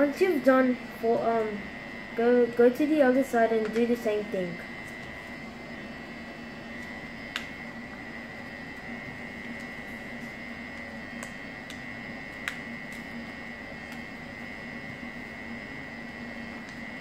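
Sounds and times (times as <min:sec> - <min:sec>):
steady hum with high whine: 0:00.0 - 0:17.0.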